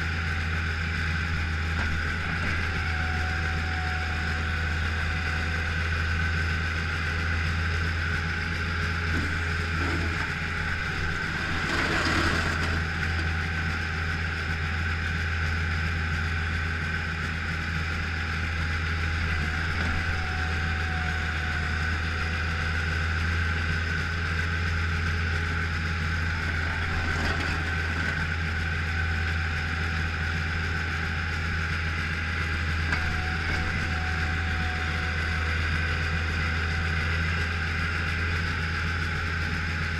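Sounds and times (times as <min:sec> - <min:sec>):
loader engine droning with whine: 0:00.0 - 0:39.9.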